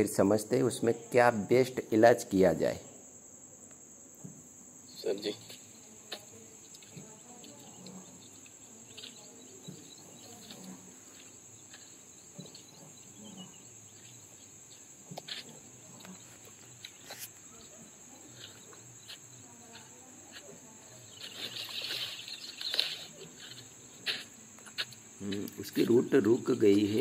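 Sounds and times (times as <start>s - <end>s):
high-pitched insect chirring: 0.4s - 27.0s.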